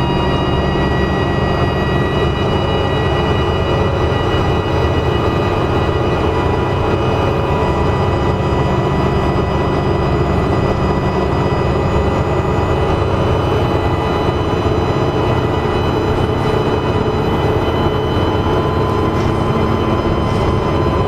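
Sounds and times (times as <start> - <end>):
bus engine drone: 0.0 - 21.0
turbocharger whine: 0.0 - 21.0.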